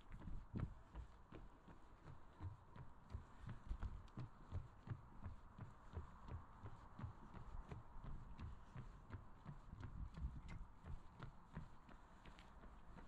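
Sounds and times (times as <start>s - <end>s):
running footsteps on a trail: 0.0s - 13.0s.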